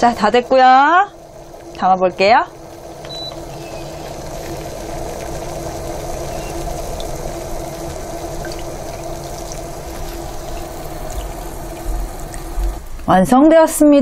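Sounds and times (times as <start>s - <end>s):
steady hum: 0.0s - 14.0s
soup bubbling in a pot: 0.2s - 13.1s.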